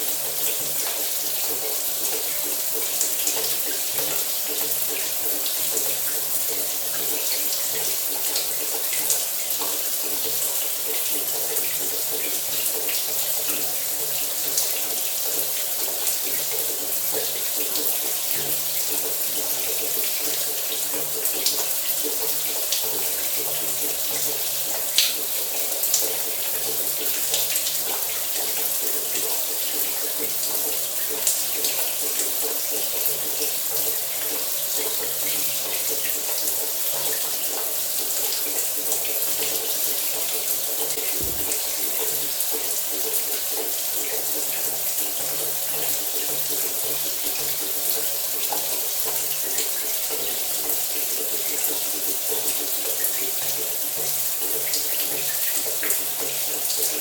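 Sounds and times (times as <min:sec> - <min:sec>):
shower running: 0:00.0 - 0:57.0.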